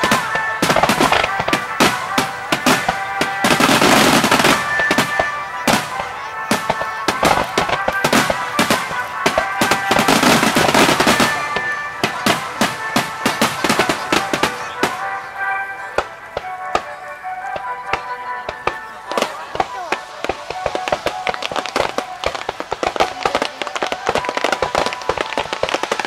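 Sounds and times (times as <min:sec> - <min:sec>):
background music: 0:00.0 - 0:26.0
fireworks bursting with bangs: 0:00.0 - 0:26.0
fireworks crackling: 0:00.0 - 0:26.0.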